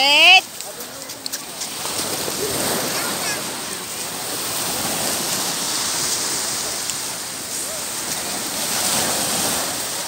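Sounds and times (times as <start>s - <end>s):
small waves breaking on beach: 0.0s - 10.0s.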